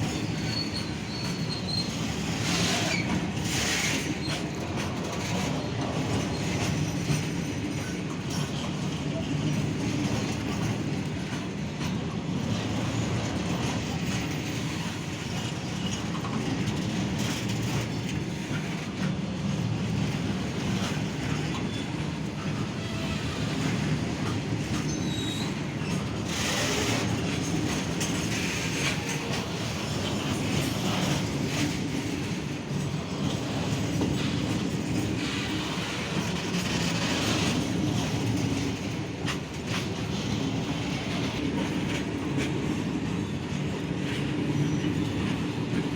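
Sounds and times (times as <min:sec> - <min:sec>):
rail joint clicks: 0:00.0 - 0:45.9
train wheels rumbling on rails: 0:00.0 - 0:45.9.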